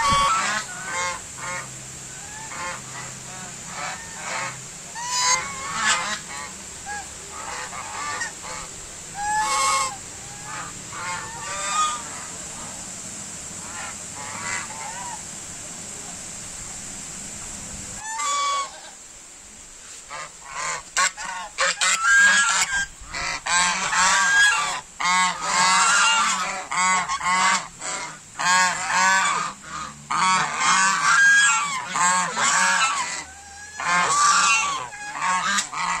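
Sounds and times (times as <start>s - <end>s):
geese honking: 0.0s - 12.9s, 13.6s - 15.3s, 18.0s - 19.0s, 20.1s - 36.0s.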